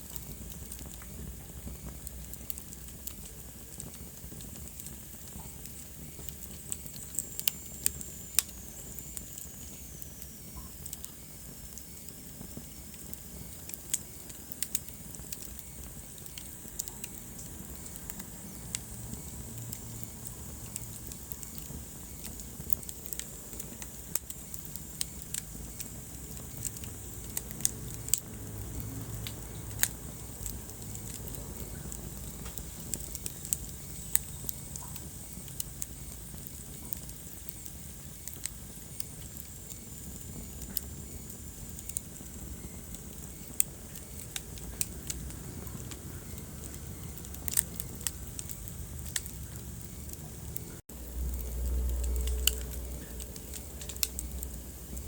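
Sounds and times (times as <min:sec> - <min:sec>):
fire crackling and popping: 0:00.0 - 0:55.0
fire rumbling: 0:00.0 - 0:55.0.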